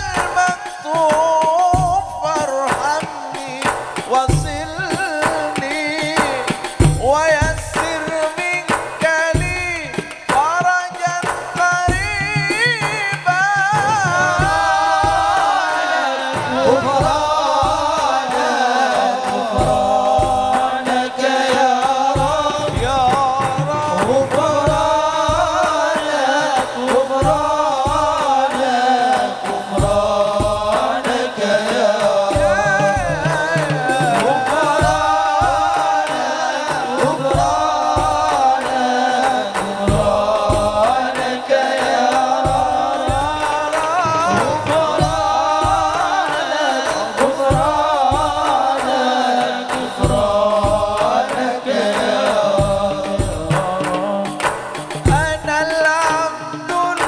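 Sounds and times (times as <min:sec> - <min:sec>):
drums beating a steady rhythm: 0:00.0 - 0:57.0
man singing into a microphone: 0:00.0 - 0:57.0.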